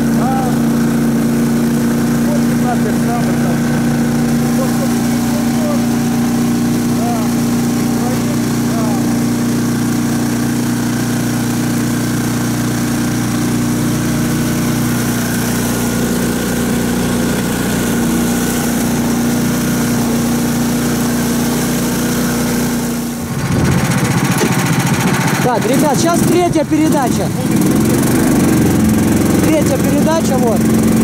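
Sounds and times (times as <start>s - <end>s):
vehicle engine humming: 0.0s - 31.0s.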